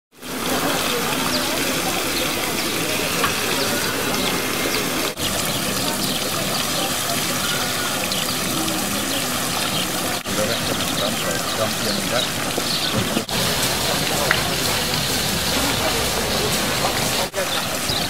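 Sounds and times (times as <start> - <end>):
fountain water splashing: 0.1 - 18.0
people's voices: 0.2 - 18.0.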